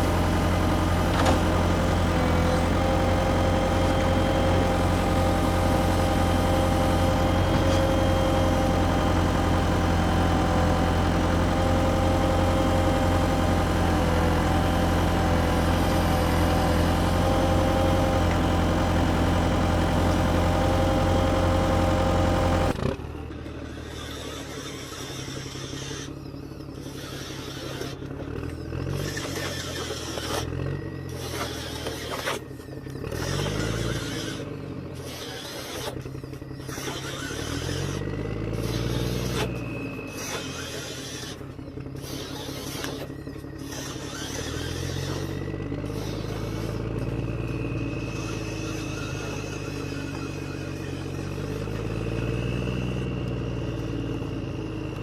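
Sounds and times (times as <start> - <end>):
loud engine-like drone: 0.0 - 23.9, 30.6 - 55.0
electric motor whines: 0.0 - 55.0.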